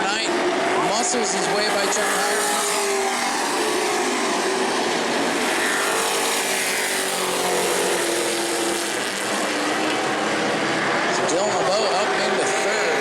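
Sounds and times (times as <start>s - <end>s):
race truck engines: 0.0s - 13.0s.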